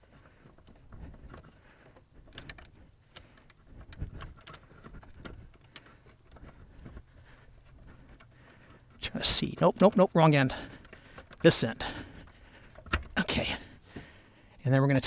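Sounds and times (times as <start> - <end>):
faint clicks and knocks: 0.0 - 14.4.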